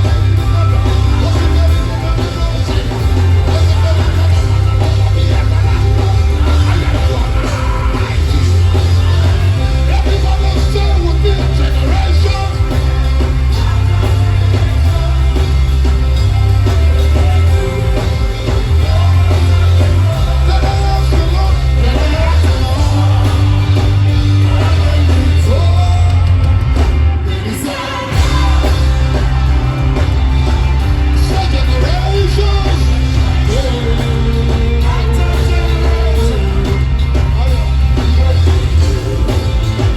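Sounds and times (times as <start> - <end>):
live band with heavy bass: 0.0 - 39.9
person singing: 0.0 - 39.9.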